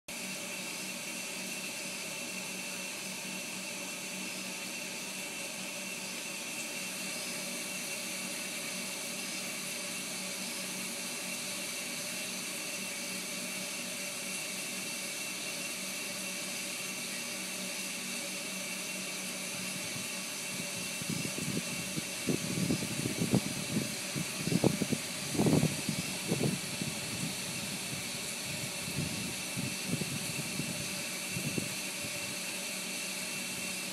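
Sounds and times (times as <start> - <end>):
steady mechanical hum and hiss: 0.1 - 33.9.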